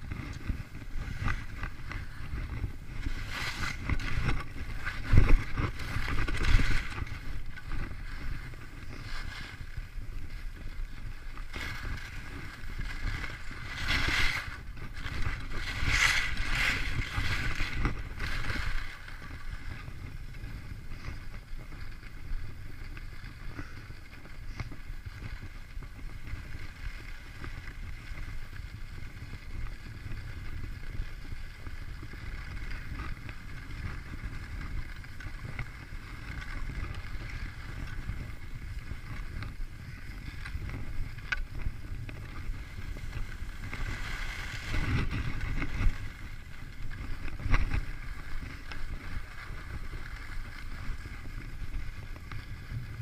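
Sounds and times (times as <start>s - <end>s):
skis scraping over snow: 0.0s - 53.0s
wind rumbling on microphone: 0.0s - 53.0s.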